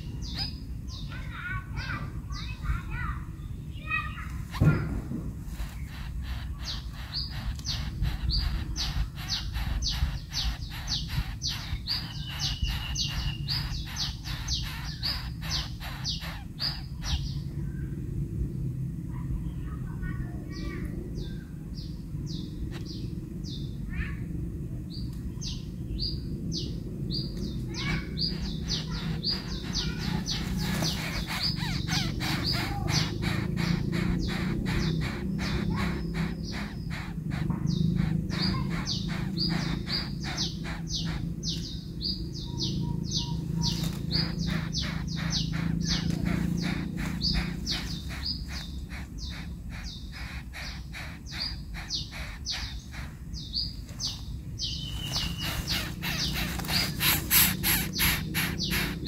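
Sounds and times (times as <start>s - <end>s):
small bird chirping: 0.0s - 2.7s, 5.6s - 17.9s, 24.9s - 59.0s
steady low hum: 0.0s - 59.0s.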